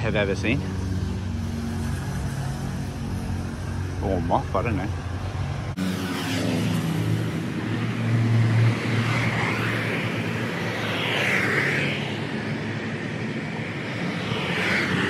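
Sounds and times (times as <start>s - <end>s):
rushing noise with whine: 0.0s - 15.0s.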